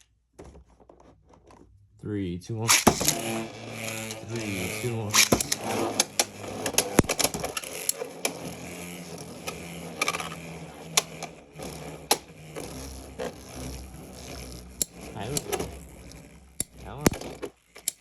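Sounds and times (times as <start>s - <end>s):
whir of spinning tops: 2.6s - 18.0s
spinning tops clacking together: 2.7s - 18.0s.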